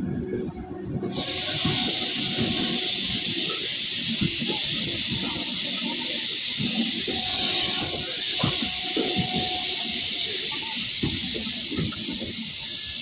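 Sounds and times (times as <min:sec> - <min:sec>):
train wheels rumbling on rails: 0:00.0 - 0:13.0
loud high hiss: 0:01.1 - 0:13.0.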